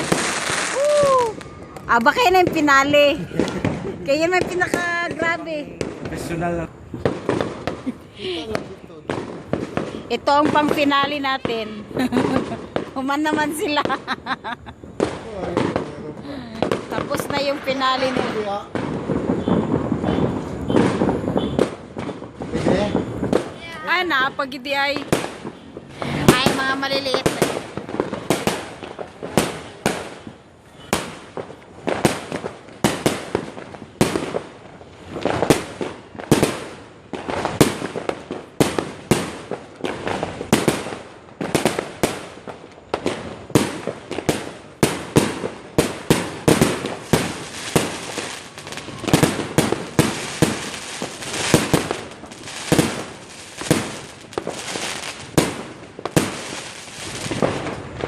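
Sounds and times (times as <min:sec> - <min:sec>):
fireworks and firecrackers banging: 0:00.0 - 0:58.0.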